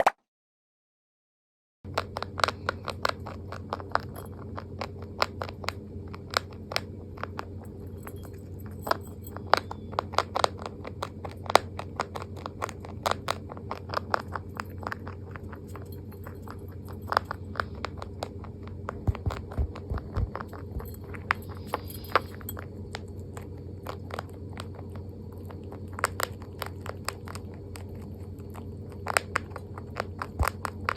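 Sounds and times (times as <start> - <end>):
rabbit chewing crunchily: 1.9 - 30.9
steady low hum: 1.9 - 30.9.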